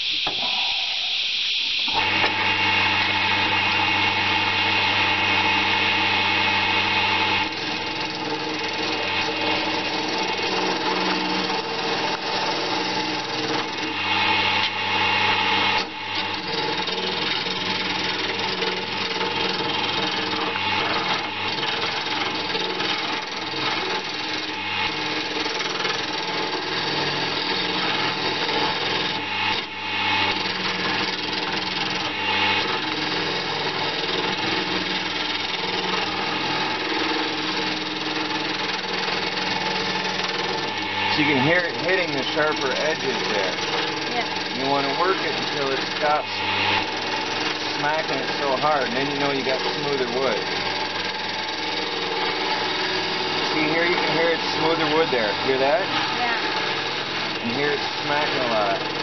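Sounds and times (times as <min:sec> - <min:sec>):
wood lathe motor running: 0:00.0 - 0:59.0.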